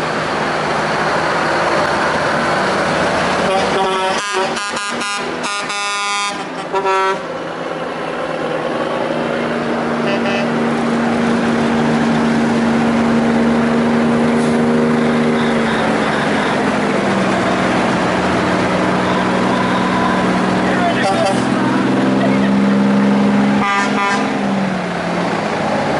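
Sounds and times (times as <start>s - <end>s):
diesel trucks driving past: 0.0s - 25.9s.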